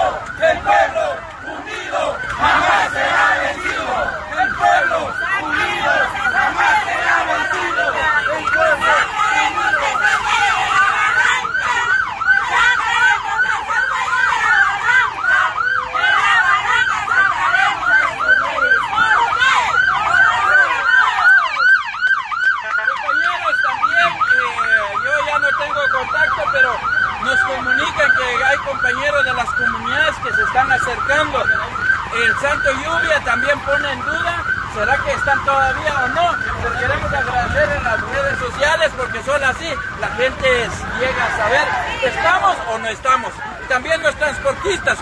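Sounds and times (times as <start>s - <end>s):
electronic siren yelping: 0.0s - 45.0s.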